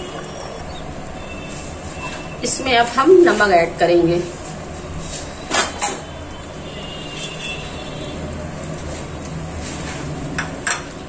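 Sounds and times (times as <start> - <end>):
low rumble of gas burner: 0.0 - 11.0.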